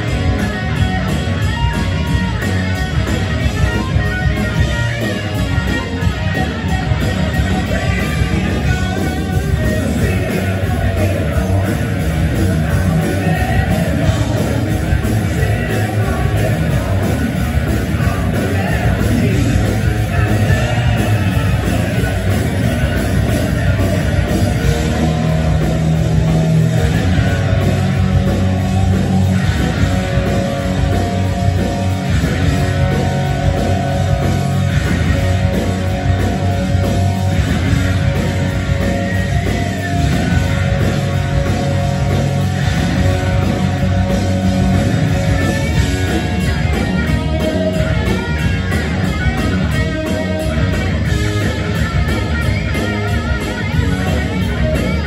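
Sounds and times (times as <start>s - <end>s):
hard rock band playing: 0.0s - 55.0s.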